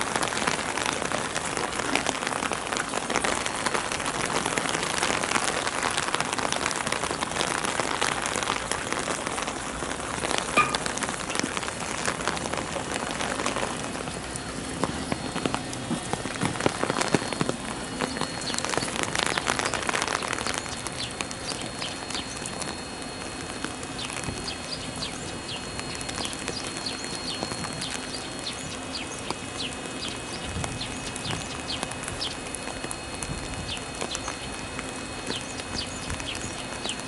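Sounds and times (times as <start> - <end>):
faint steady hum: 0.0 - 37.0
rain pattering: 0.0 - 37.0.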